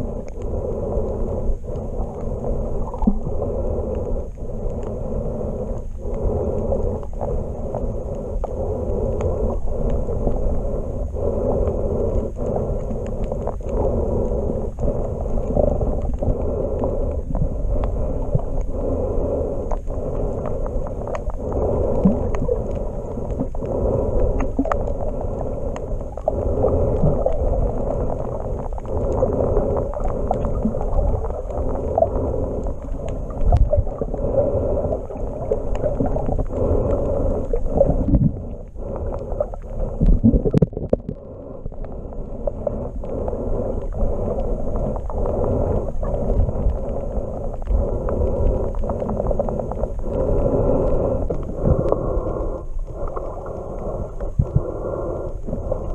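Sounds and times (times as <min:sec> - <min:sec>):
muffled underwater rumble and swish: 0:00.0 - 0:55.9
sharp underwater clicks: 0:00.0 - 0:55.9.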